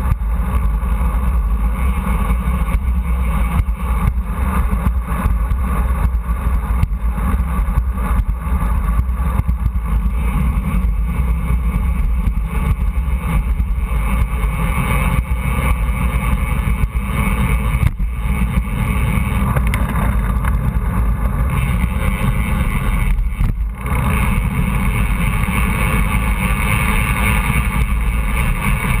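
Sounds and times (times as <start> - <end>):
road vibration: 0.0 - 29.0
wind noise on microphone: 0.0 - 29.0.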